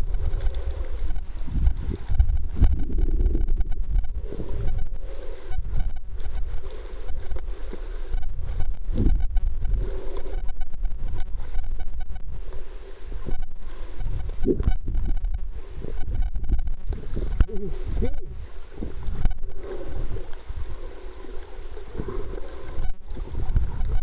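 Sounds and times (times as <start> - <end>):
muffled underwater water movement: 0.0 - 24.0.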